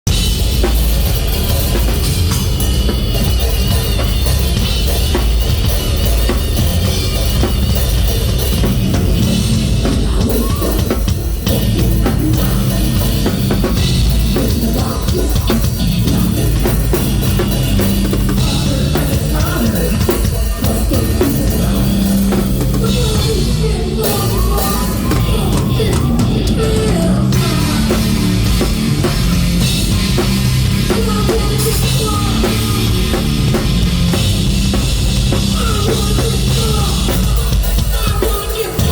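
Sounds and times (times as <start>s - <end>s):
drum kit played hard: 0.0s - 38.9s
rock music: 0.0s - 38.9s.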